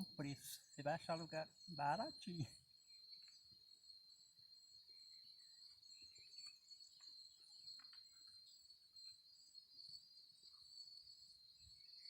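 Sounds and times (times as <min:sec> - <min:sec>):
crickets trilling: 0:00.0 - 0:12.0
faint chirps and ticks: 0:00.0 - 0:12.0.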